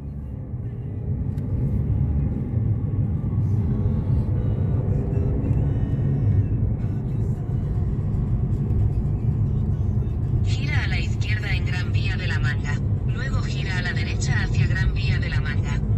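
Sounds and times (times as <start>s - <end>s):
car cabin road rumble: 0.0s - 15.9s.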